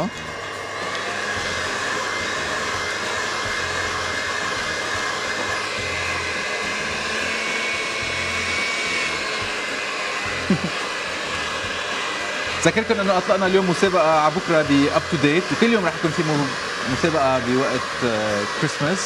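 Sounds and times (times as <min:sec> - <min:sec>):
electric mixer beating dough: 0:00.0 - 0:19.0.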